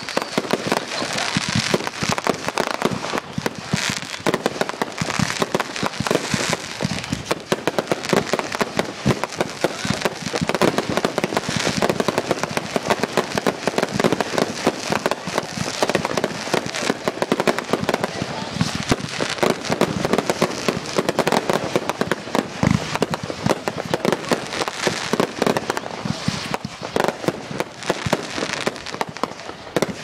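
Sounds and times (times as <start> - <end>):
fireworks bangs and pops: 0.0 - 30.0.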